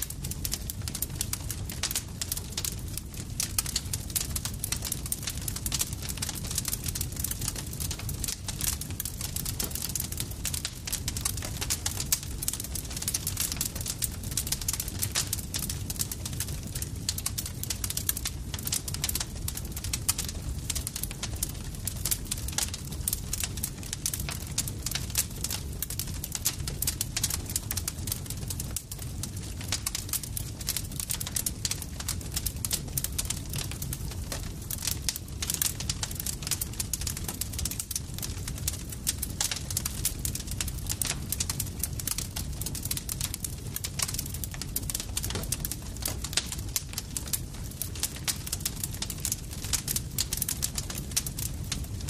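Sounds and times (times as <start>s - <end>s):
campfire crackling: 0.0s - 52.0s
low rumble of flames: 0.0s - 52.0s.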